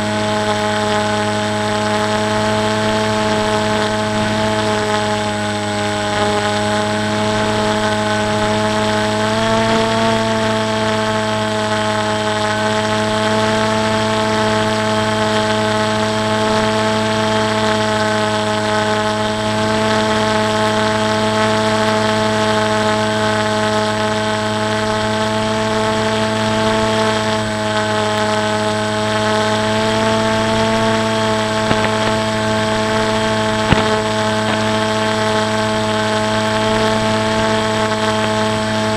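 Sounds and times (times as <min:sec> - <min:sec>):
electric motor and propeller hum: 0:00.0 - 0:38.9.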